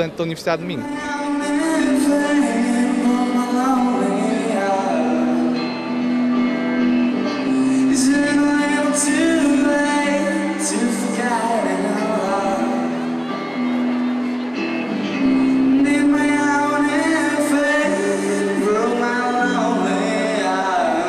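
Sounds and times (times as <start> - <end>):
man singing: 0.6 - 6.0, 7.4 - 13.2, 15.1 - 21.0
electric guitar: 0.8 - 21.0.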